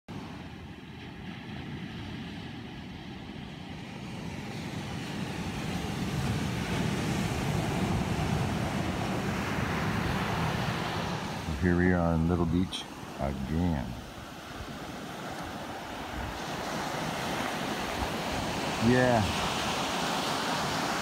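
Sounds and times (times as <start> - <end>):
wind buffeting microphone: 0.1 - 21.0.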